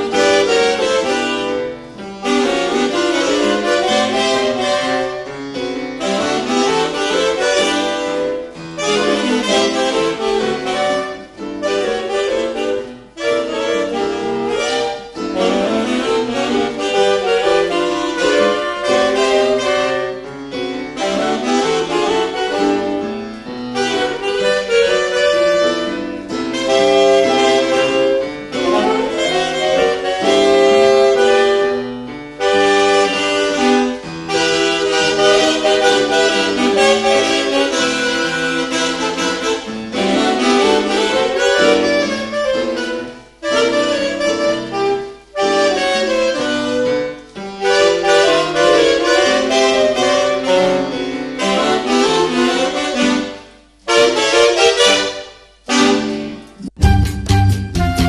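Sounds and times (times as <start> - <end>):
piano accompaniment: 0.0 - 58.0
saxophone ensemble playing: 0.0 - 58.0.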